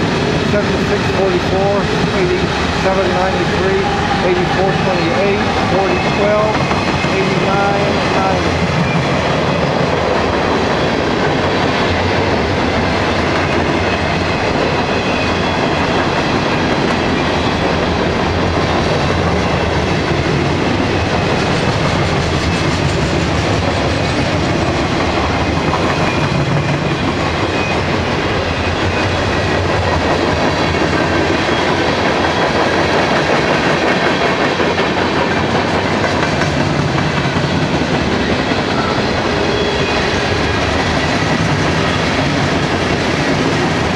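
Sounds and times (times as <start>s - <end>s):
freight train cars rolling past: 0.0s - 43.9s
steel wheels clattering on rails: 0.0s - 43.9s.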